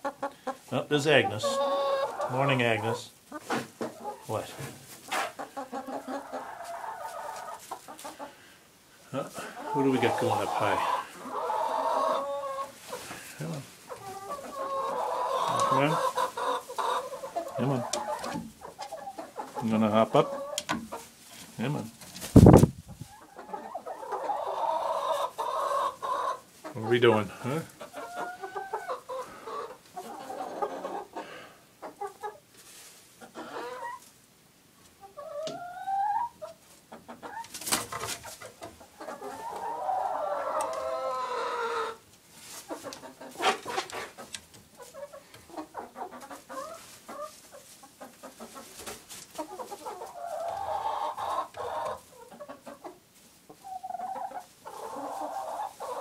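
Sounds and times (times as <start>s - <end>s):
hens clucking and calling: 0.0s - 56.0s.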